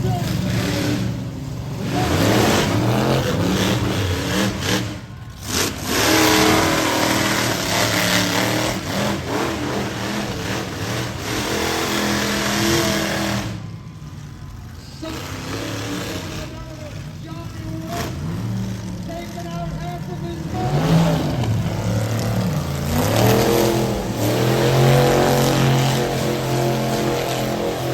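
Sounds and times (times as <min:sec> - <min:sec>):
truck engine revving hard: 0:00.0 - 0:27.9.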